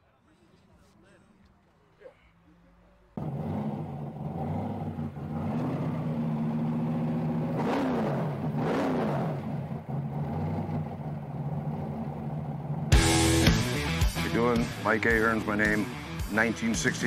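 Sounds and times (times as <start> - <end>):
engine idling and revving: 3.1 - 17.0.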